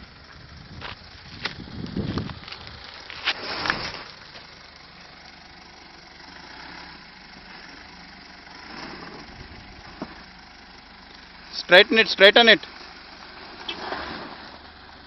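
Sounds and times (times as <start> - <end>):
car engine running near idle: 0.0 - 15.0.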